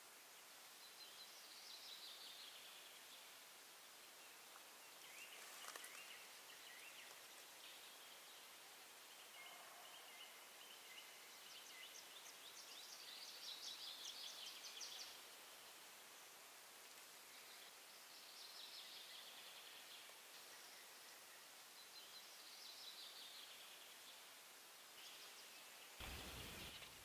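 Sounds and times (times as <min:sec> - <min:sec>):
small birds singing: 0:00.3 - 0:16.4, 0:17.0 - 0:27.0.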